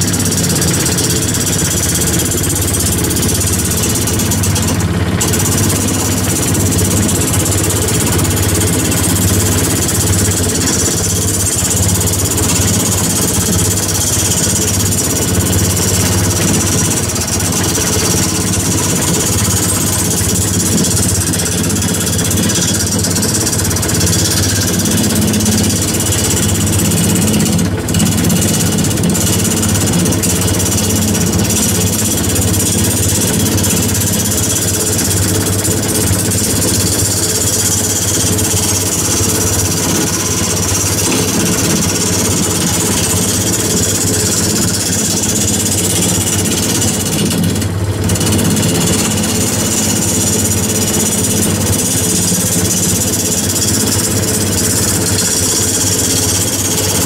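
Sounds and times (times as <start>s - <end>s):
gouge cutting spinning wood: 0.0s - 57.0s
wood lathe motor hum: 0.0s - 57.0s.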